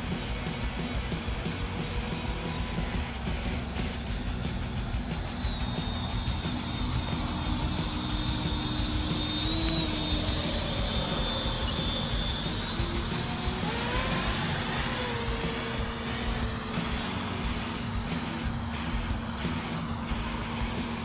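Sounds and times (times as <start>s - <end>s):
electric ducted fan whining: 0.0s - 21.0s.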